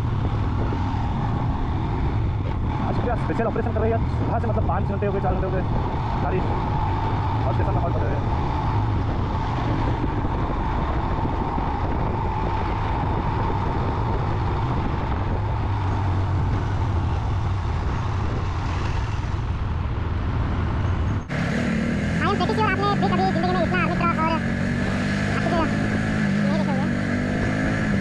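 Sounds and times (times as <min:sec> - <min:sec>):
motorcycle engine rumble: 0:00.0 - 0:28.0
trucks driving alongside: 0:00.0 - 0:28.0
wind and road noise: 0:00.0 - 0:28.0.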